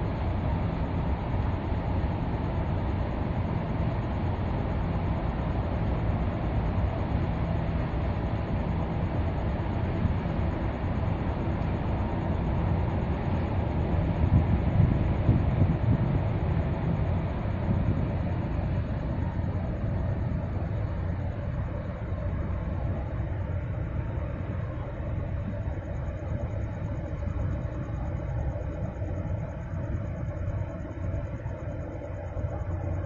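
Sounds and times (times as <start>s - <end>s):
faint hum: 0.0s - 33.0s
ship engine rumble: 0.0s - 33.0s.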